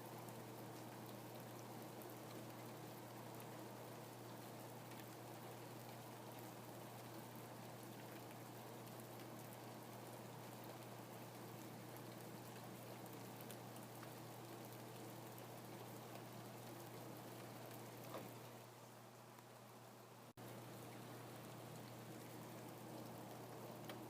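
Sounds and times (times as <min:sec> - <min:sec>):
faint steady rain: 0:00.0 - 0:24.0.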